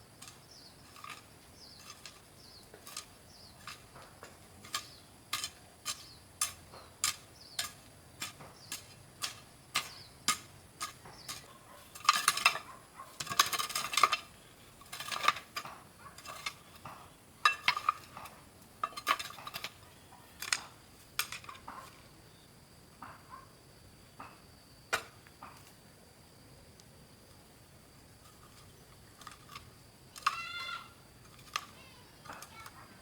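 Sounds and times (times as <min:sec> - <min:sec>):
scraping and rattling: 0:00.2 - 0:22.0, 0:28.2 - 0:32.8.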